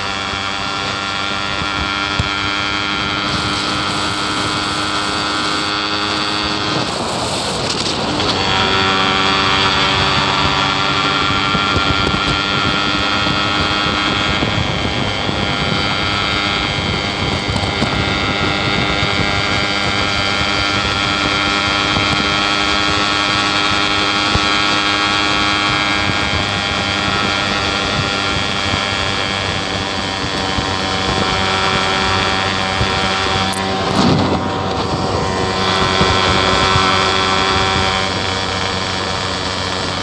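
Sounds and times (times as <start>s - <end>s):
two-stroke motorcycle engine running: 0.0s - 40.0s
wind on microphone: 0.0s - 40.0s.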